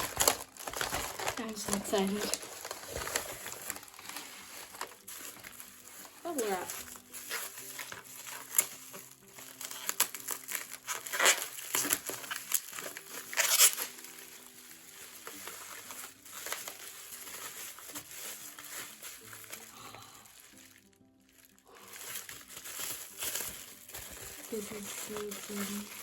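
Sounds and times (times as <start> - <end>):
bubble wrap crinkling: 0.0 - 26.0
soft background music: 0.0 - 26.0.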